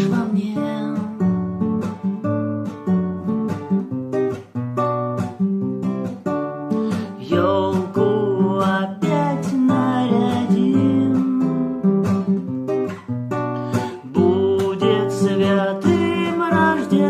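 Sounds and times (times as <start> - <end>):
acoustic guitar picking and strumming: 0.0 - 17.0.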